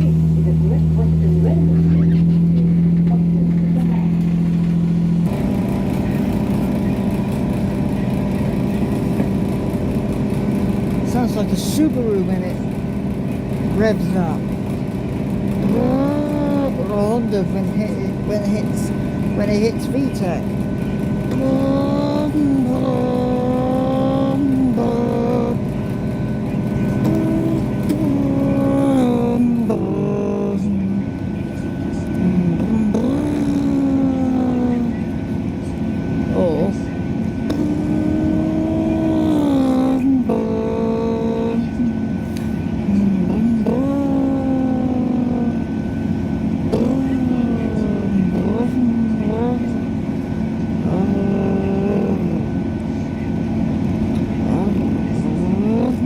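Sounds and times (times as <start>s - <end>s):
diesel train engine revving: 0.0s - 56.0s
train running rumble: 0.0s - 56.0s.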